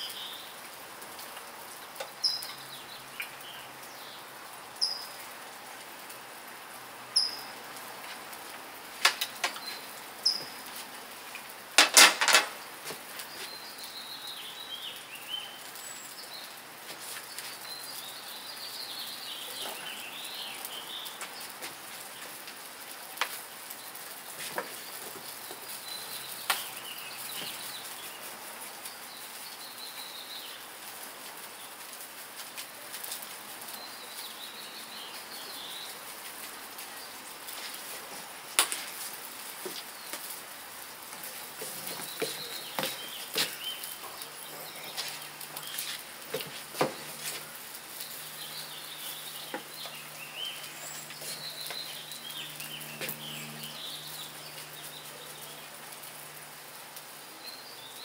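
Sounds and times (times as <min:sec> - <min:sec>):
birds chirping: 0:00.0 - 0:00.7, 0:01.3 - 0:31.9, 0:32.7 - 0:58.0
meat sizzling on a grill: 0:00.0 - 0:58.0
fire popping: 0:07.2 - 0:15.2, 0:15.8 - 0:57.1.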